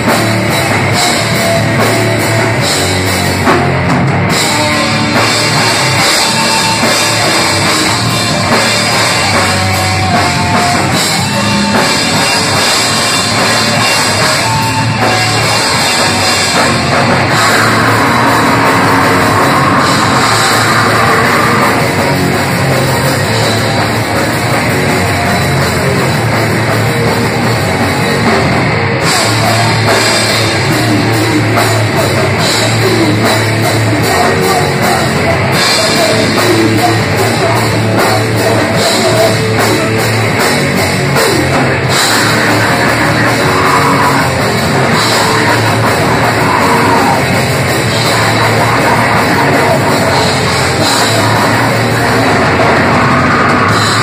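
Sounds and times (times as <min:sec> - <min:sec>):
bass guitar: 0:00.0 - 0:54.0
distorted electric guitar: 0:00.0 - 0:54.0
fast drums: 0:00.0 - 0:54.0.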